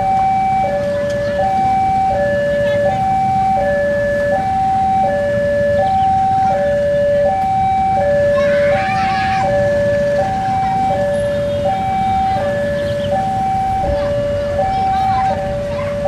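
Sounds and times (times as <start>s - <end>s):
diesel locomotive rumble: 0.0s - 16.0s
level crossing two-tone alarm: 0.0s - 16.0s.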